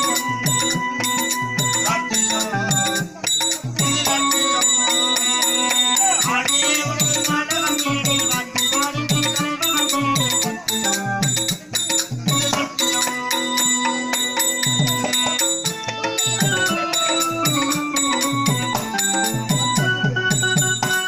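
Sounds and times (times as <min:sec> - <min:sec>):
hand cymbals jingling: 0:00.0 - 0:21.0
hand drum playing rhythm: 0:00.0 - 0:21.0
harmonium holding chords: 0:00.0 - 0:21.0
person singing: 0:00.0 - 0:21.0.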